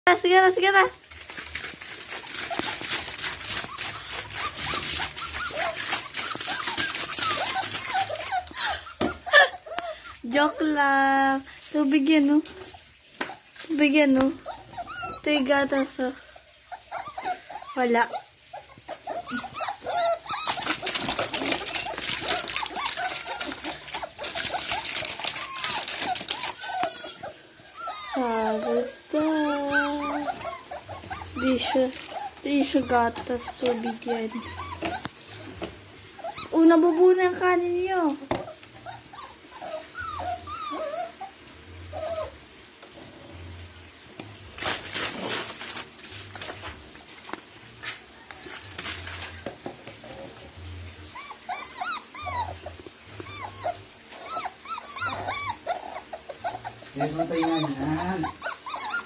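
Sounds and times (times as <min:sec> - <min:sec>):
puppies whining and yipping: 0:01.1 - 0:10.9, 0:12.5 - 0:59.0.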